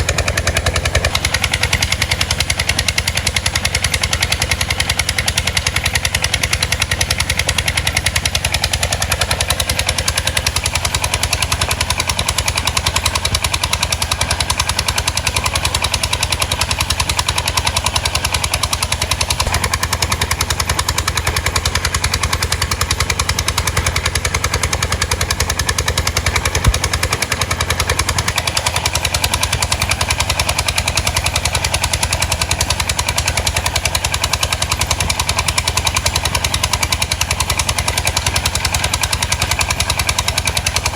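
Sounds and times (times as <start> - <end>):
boat diesel engine running: 0.0 - 40.9.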